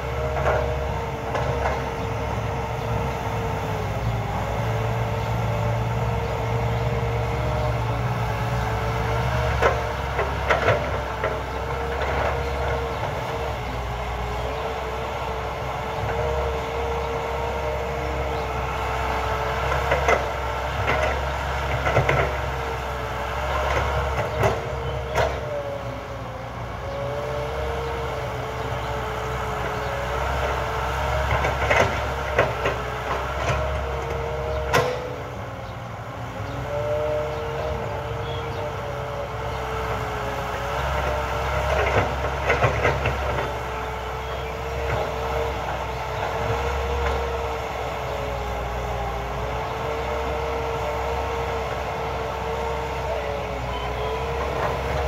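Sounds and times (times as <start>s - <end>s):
excavator diesel rumble: 0.0s - 55.0s.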